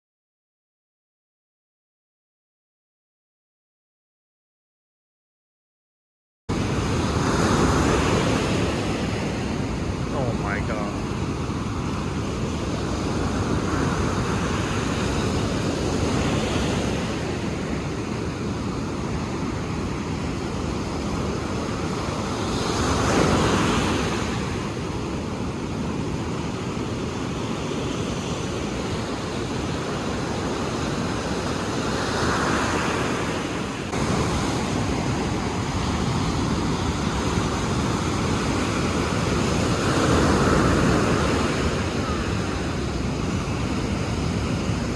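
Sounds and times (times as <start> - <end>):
ocean waves breaking: 6.5 - 44.9.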